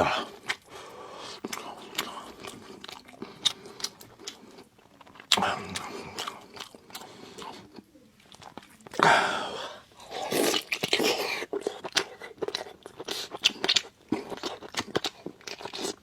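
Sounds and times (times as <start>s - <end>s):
chewing and biting meat: 1.4s - 9.0s, 10.1s - 16.0s.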